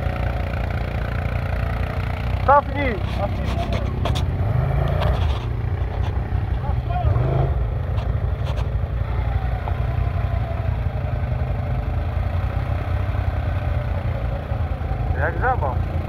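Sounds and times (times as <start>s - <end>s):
quad bike engine rumbling: 0.0s - 16.0s.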